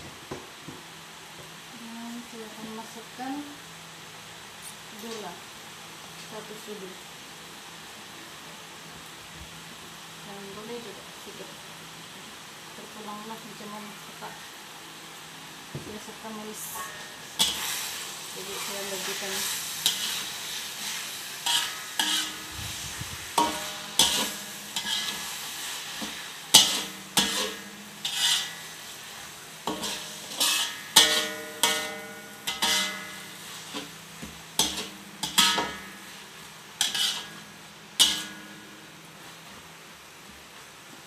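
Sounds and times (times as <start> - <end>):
faint sizzle: 0.0 - 41.0.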